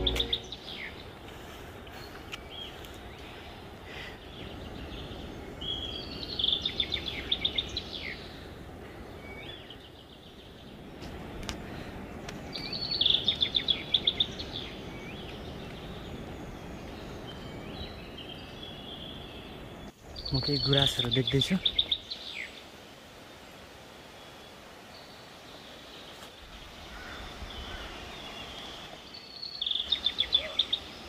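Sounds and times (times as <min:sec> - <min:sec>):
outdoor background hiss: 0:00.0 - 0:31.0
songbird singing: 0:00.0 - 0:31.0.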